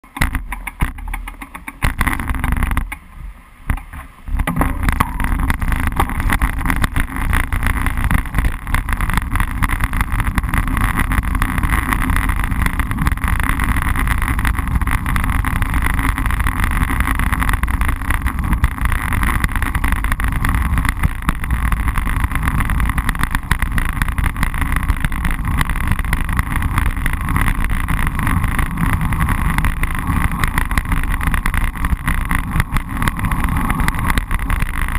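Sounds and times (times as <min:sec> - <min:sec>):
road vibration rattling: 0:00.0 - 0:34.9
wind rumble: 0:00.0 - 0:34.9.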